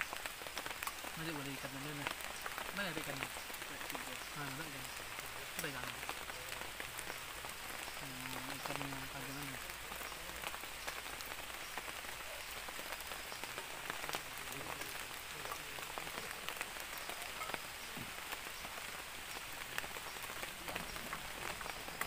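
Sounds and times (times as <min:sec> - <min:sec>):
heavy rain on a roof: 0:00.0 - 0:22.0.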